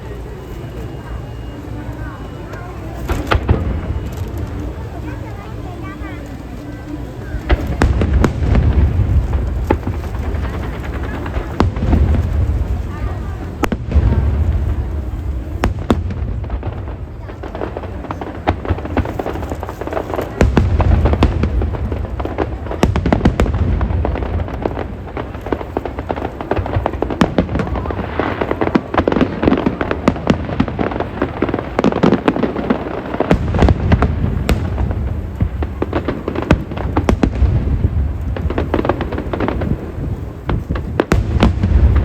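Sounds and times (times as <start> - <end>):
fireworks crackling: 0.0 - 42.0
fireworks sharp bangs: 0.0 - 42.0
deep booms of bursting shells: 7.5 - 42.0.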